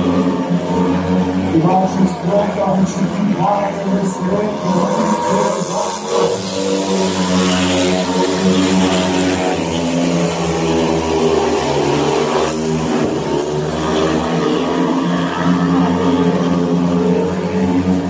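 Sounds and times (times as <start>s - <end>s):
motorcycle engines racing: 0.0s - 18.0s.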